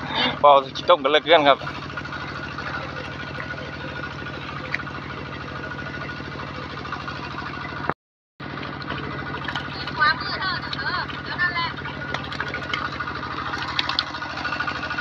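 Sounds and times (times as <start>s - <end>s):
small pump engine running: 0.0s - 15.0s.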